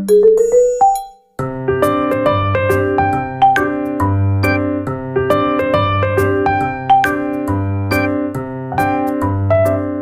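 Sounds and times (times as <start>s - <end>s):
electric piano music: 0.0s - 10.0s.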